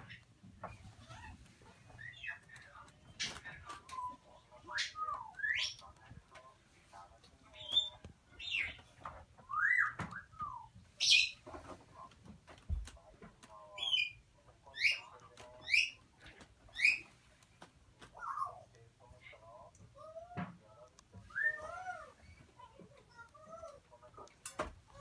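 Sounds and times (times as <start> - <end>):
parrot chicks calling: 0.0 - 6.1, 7.5 - 11.6, 13.6 - 17.2, 18.1 - 25.0.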